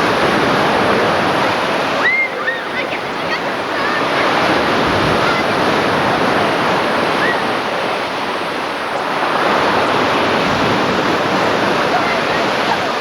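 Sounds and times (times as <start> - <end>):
sea waves rushing: 0.0 - 13.0.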